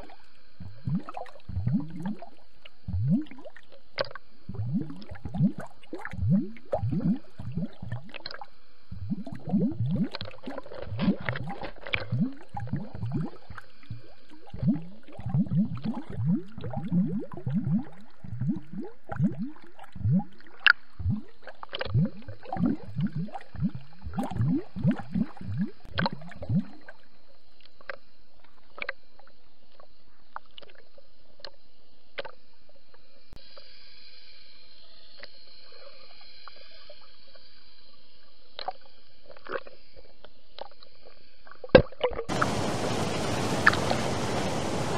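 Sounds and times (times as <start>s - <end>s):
scattered underwater clicks: 0.0s - 33.7s, 34.7s - 42.5s, 43.6s - 44.0s
underwater gurgling and squishing: 0.0s - 34.0s, 34.7s - 44.9s.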